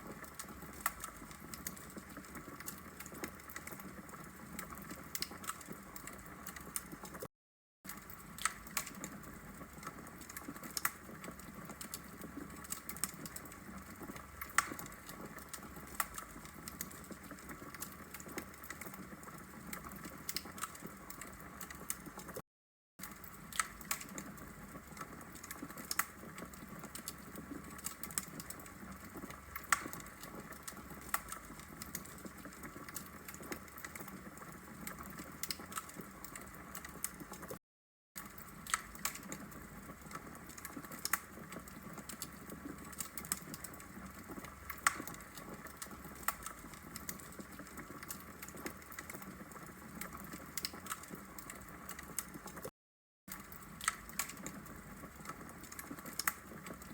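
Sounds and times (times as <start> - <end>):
fire popping and snapping: 0.0 - 7.3, 7.9 - 22.4, 23.0 - 37.6, 38.2 - 52.7, 53.3 - 56.9.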